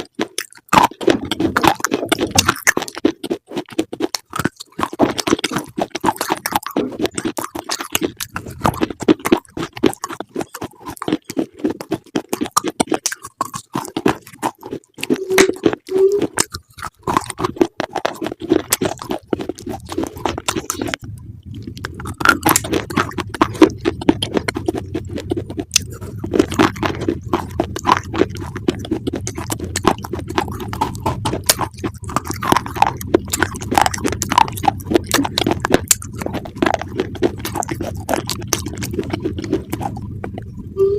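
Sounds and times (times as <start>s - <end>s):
chewing crunchy food: 0.0s - 40.8s.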